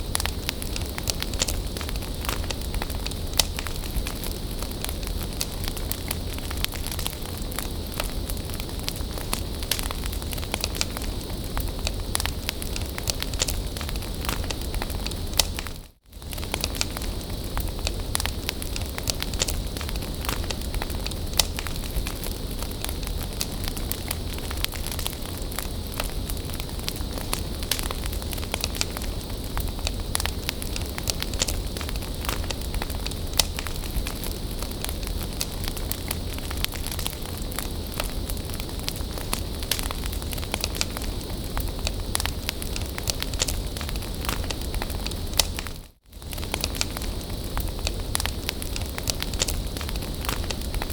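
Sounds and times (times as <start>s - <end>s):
bonfire hissing and rumbling: 0.0s - 50.9s
fire crackles and pops: 0.0s - 50.9s.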